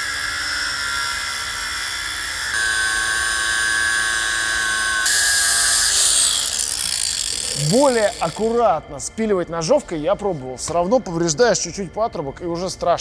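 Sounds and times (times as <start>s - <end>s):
rotary tool high whine: 0.0s - 13.0s.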